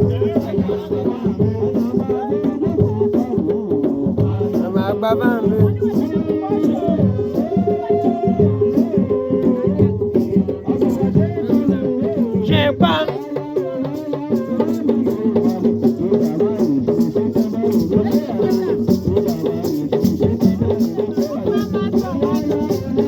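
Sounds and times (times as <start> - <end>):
person singing: 0.0 - 23.0
shaker percussion: 0.0 - 23.0.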